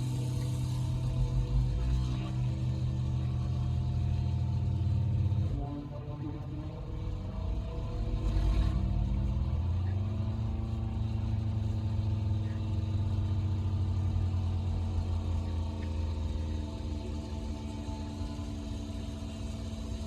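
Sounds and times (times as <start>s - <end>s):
low synthesizer drone: 0.0s - 20.0s.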